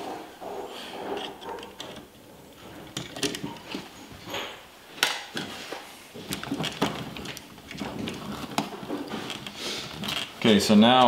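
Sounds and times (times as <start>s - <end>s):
electrical wires clicking and rustling: 0.0s - 11.0s.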